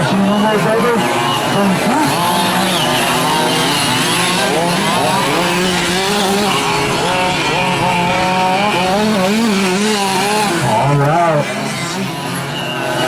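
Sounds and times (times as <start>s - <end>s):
rc truck engines buzzing and revving: 0.0s - 13.0s.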